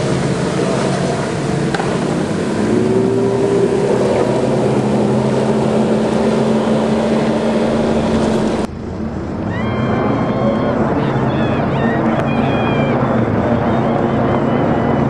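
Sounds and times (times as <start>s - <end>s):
jet ski engines revving: 0.0s - 15.0s
steady rush of noise: 0.0s - 15.0s.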